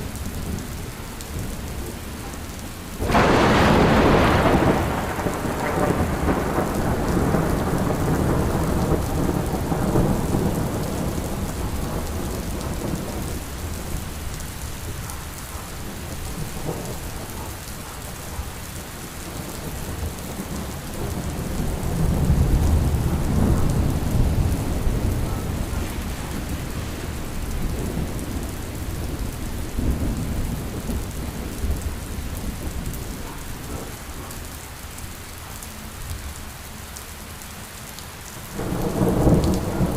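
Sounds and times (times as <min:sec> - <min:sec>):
steady rain: 0:00.0 - 0:39.9
rolling thunder: 0:00.3 - 0:34.3, 0:38.5 - 0:39.9.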